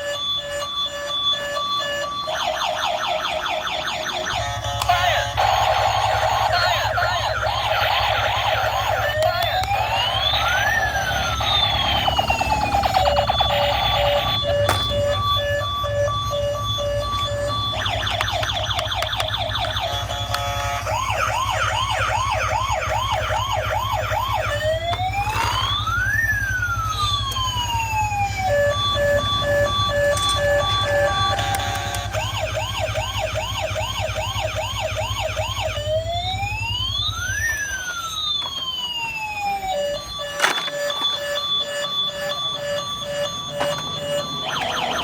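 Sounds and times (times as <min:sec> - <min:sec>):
electronic toy siren: 0:00.0 - 0:45.0.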